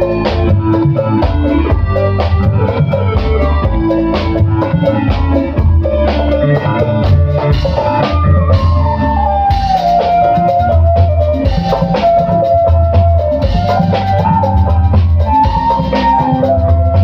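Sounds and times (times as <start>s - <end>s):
bass guitar: 0.0s - 17.0s
drum kit steady beat: 0.0s - 17.0s
held lead melody: 0.0s - 17.0s
keyboards: 0.0s - 17.0s.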